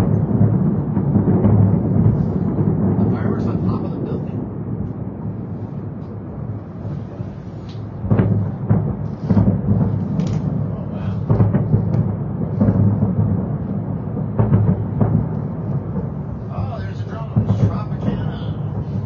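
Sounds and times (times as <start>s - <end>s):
continuous low rumble: 0.0s - 19.0s
distant fireworks booming: 0.0s - 19.0s.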